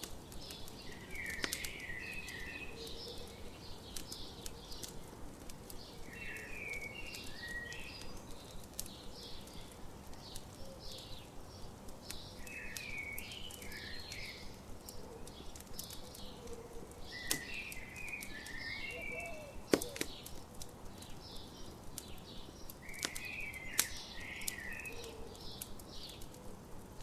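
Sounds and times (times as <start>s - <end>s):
campfire crackling and popping: 0.0s - 27.0s
songbirds chirping: 0.0s - 27.0s.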